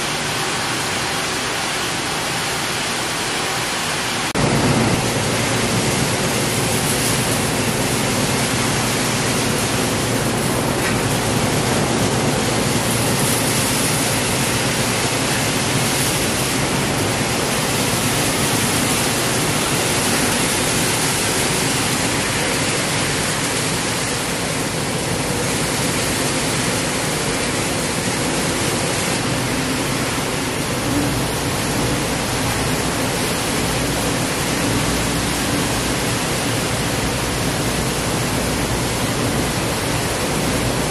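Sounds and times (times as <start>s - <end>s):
machinery hiss: 0.0s - 40.9s.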